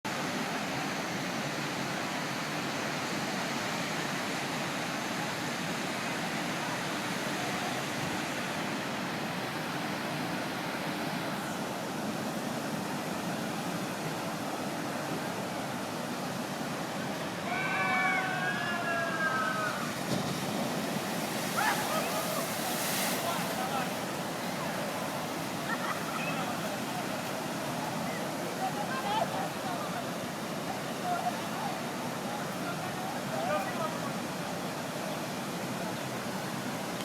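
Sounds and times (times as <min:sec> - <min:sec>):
water rushing: 0:00.1 - 0:37.0.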